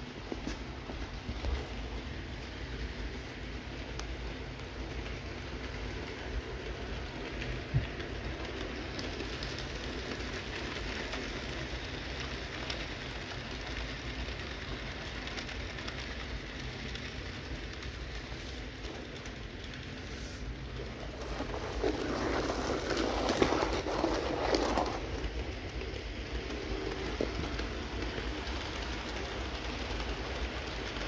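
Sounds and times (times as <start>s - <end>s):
model train wheels rattling: 0.1s - 31.0s.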